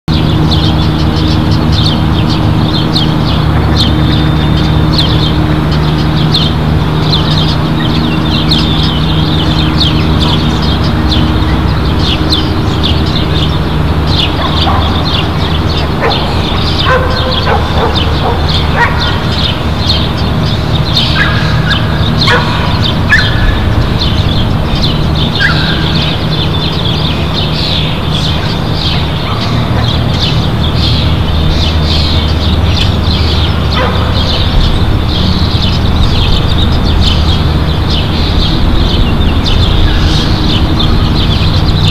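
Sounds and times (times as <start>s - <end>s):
lower bird calls: 0.1s - 41.9s
small birds chirping: 0.1s - 41.9s
steady low hum: 0.1s - 41.9s.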